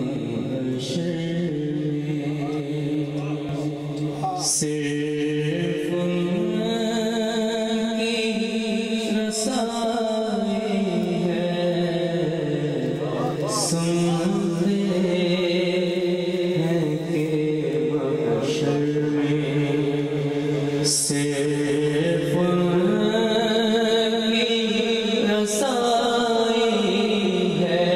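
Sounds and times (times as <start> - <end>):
man chanting into microphone: 0.0 - 27.9.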